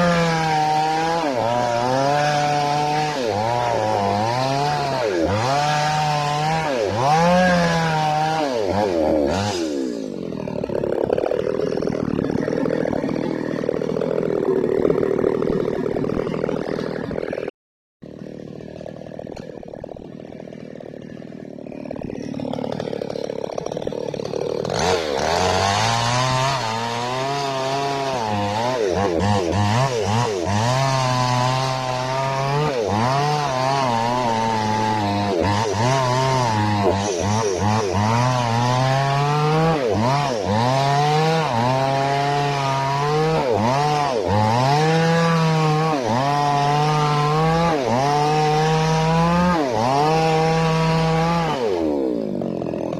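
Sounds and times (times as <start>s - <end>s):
chainsaw engine revving: 0.0s - 52.9s.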